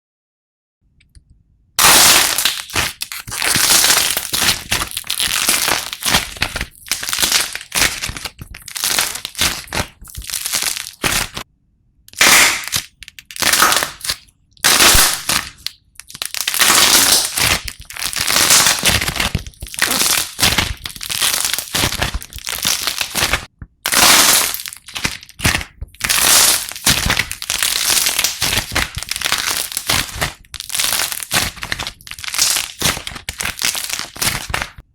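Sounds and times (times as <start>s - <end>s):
slime squeezed by hand: 1.8s - 11.4s, 12.1s - 34.8s.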